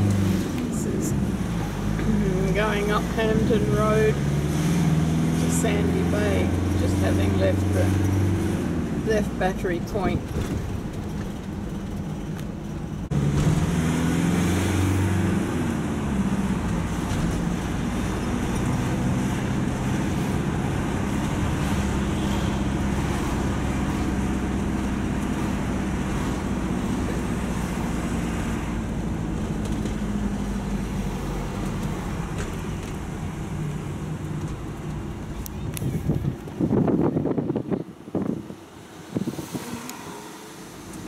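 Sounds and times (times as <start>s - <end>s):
road noise inside a vehicle: 0.0s - 41.0s
vehicle engine accelerating: 0.0s - 41.0s.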